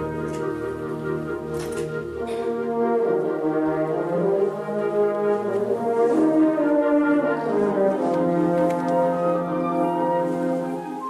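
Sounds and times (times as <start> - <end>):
wind band playing chords: 0.0 - 11.0.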